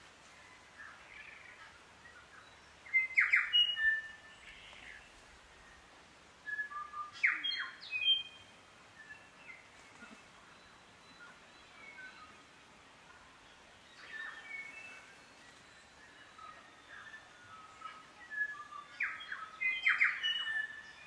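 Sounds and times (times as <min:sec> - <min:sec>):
distant bird calls: 0:00.0 - 0:21.0
bird song whistled notes: 0:00.4 - 0:12.6, 0:13.2 - 0:21.0.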